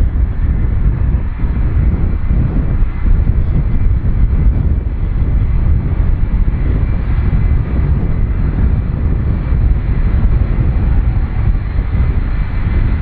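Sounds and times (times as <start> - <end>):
jet engines rumbling with whine: 0.0 - 13.0.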